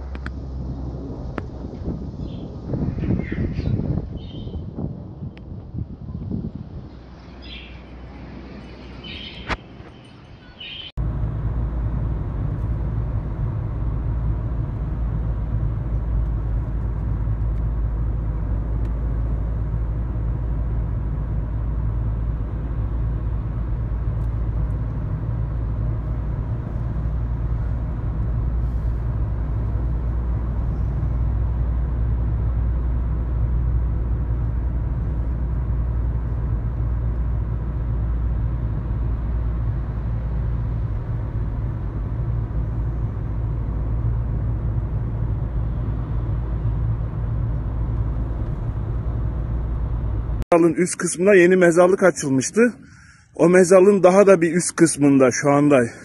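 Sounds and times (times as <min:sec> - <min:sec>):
car engine rumble: 0:00.0 - 0:56.0
tyre road noise: 0:00.0 - 0:56.0.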